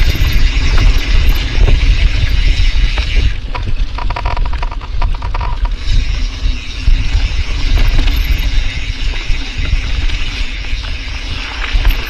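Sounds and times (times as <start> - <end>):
bike hub ratchet clicking: 0.0 - 12.0
wind and tyres rumbling: 0.0 - 12.0.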